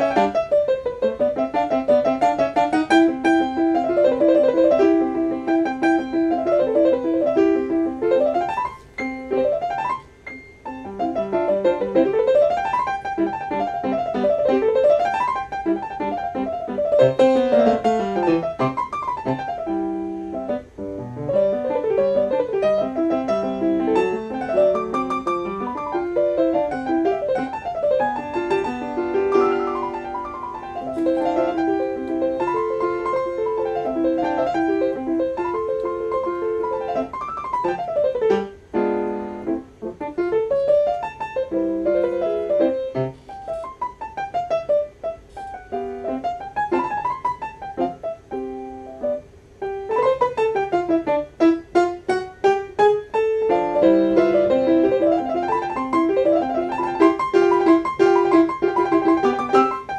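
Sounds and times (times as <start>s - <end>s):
grand piano fast runs: 0.0s - 59.9s.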